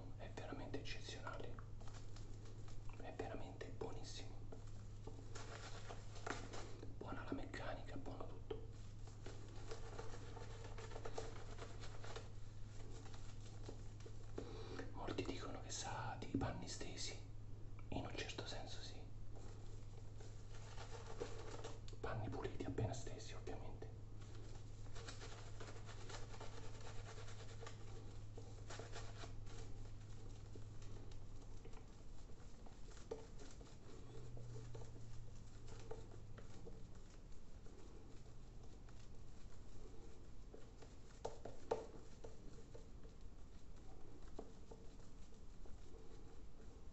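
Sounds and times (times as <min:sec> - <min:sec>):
shaving brush rustling on stubble: 0:00.0 - 0:46.9
steady low hum: 0:00.0 - 0:46.9.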